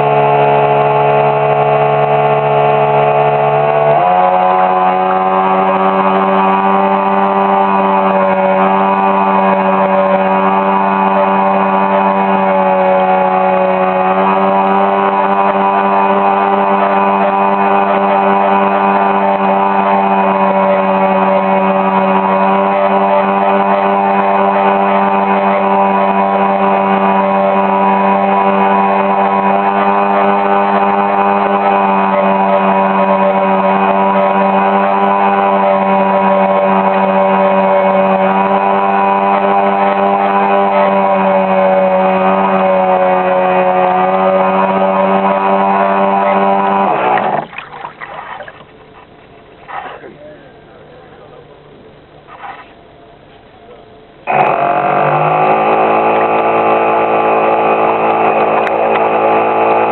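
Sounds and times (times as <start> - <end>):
boat motor whining: 0.0 - 59.9.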